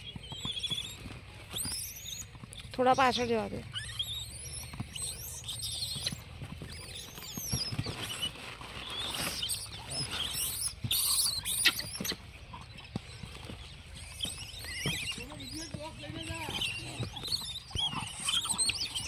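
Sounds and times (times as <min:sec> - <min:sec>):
small animals chirping and squeaking: 0:00.0 - 0:19.0.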